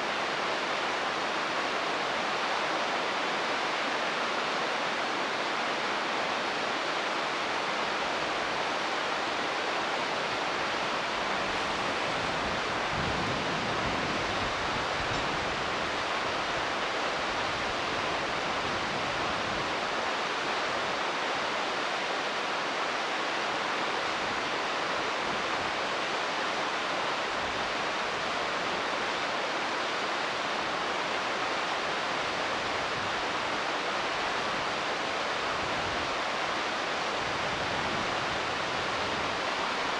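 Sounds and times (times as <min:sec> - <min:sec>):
river running over stones: 0:00.0 - 0:39.9.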